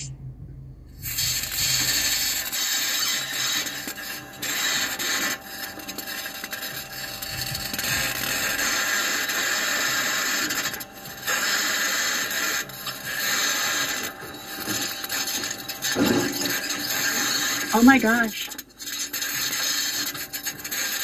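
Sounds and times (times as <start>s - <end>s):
rover wheels grinding over rock: 1.0s - 21.0s.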